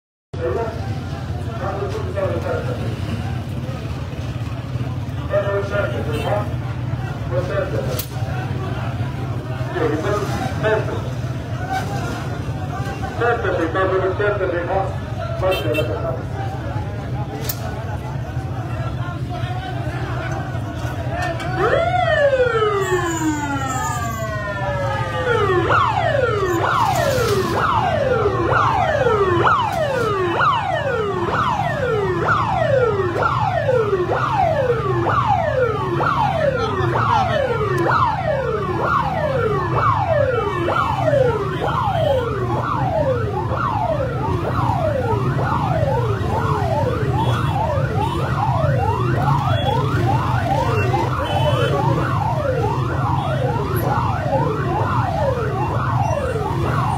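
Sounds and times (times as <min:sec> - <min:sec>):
ambulance siren wailing: 0:00.4 - 0:56.9.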